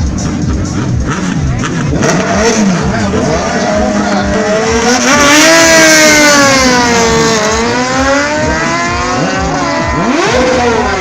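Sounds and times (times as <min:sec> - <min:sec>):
sportbike engine revving high: 0:00.0 - 0:11.0.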